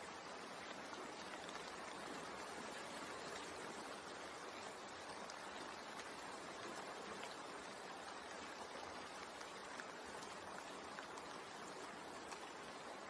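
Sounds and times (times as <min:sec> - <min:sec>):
faint raindrop ticks: 0:00.0 - 0:13.0
steady rain hiss: 0:00.0 - 0:13.0.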